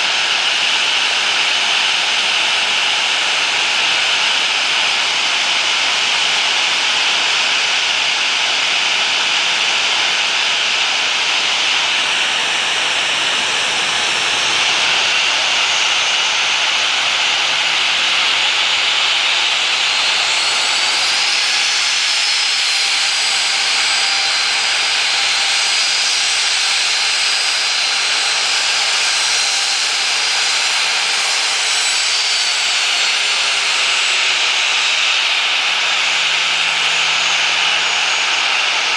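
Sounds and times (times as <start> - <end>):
jet engines hissing and whining: 0.0 - 38.9.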